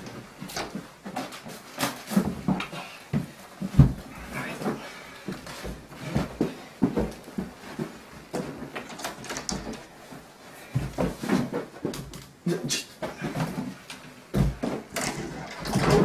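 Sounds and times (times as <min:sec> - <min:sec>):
knocks bumps and shuffling: 0:00.0 - 0:16.0.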